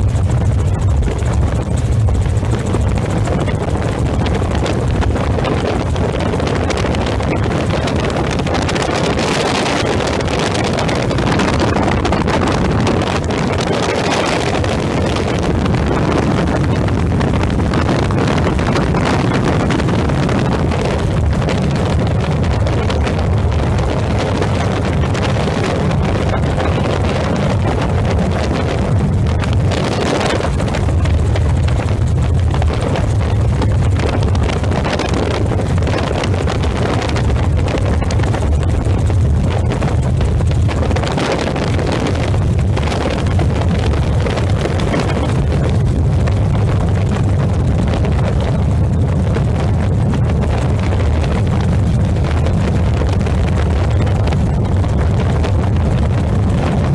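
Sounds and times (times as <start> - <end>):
helicopter engine and rotor drone: 0.0 - 56.9
wind noise on microphone: 0.0 - 56.9.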